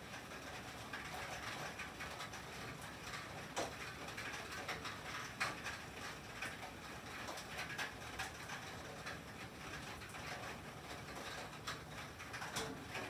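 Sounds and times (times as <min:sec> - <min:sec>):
rain on a tin roof: 0:00.0 - 0:13.0.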